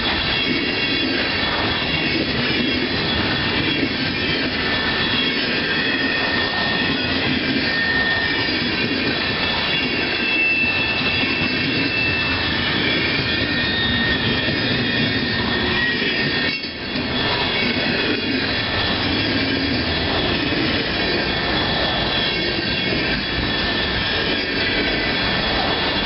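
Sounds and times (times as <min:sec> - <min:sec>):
steel wheels on rails: 0:00.0 - 0:26.0
wheel squeal: 0:00.0 - 0:26.0.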